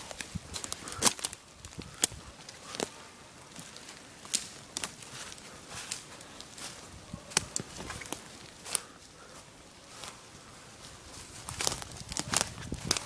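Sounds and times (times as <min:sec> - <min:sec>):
footsteps crunching on dry ground: 0:00.0 - 0:13.0.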